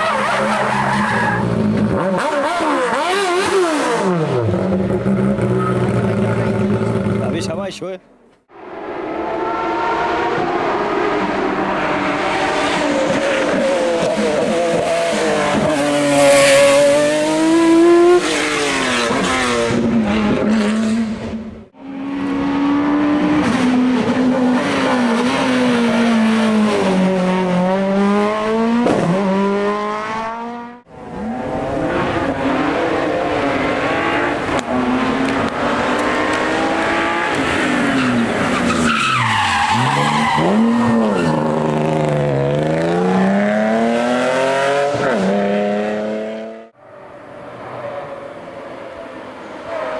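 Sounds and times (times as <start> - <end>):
race car engines at full throttle: 0.0 - 7.6, 8.5 - 49.9.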